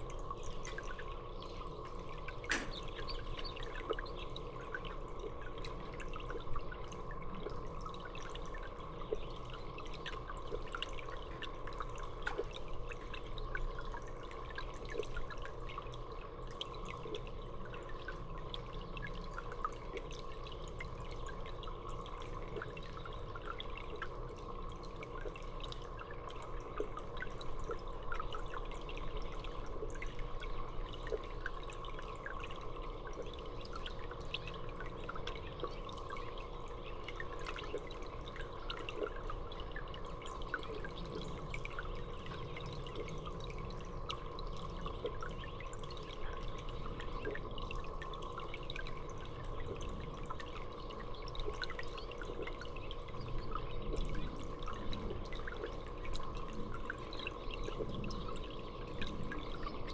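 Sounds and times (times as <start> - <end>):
water dripping and trickling: 0.0 - 59.9.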